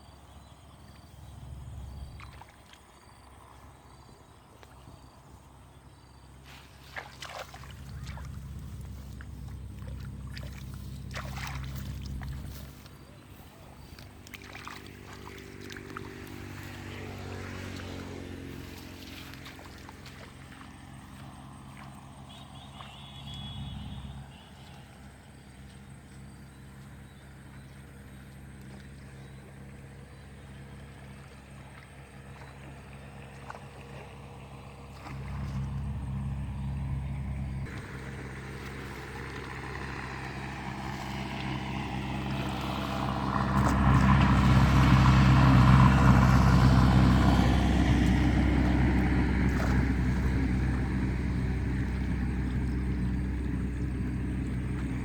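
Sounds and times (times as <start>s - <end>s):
motor engine running: 6.4s - 55.0s.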